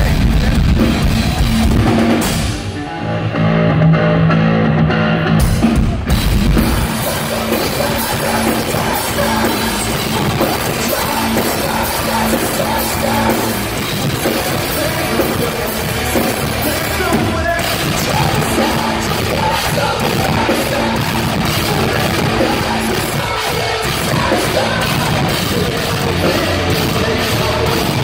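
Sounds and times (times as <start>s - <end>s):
drum kit: 0.0s - 2.8s, 3.4s - 28.0s
heavy rock band playing live: 0.0s - 28.0s.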